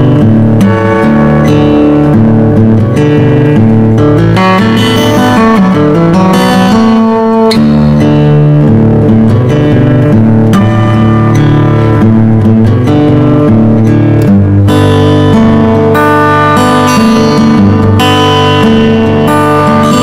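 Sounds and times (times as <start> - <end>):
guitar instrumental music: 0.0 - 20.0.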